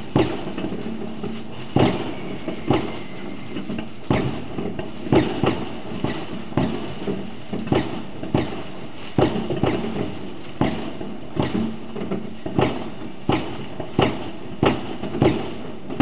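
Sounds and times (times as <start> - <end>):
fireworks bangs: 0.0 - 16.0
steady background hiss: 0.0 - 16.0.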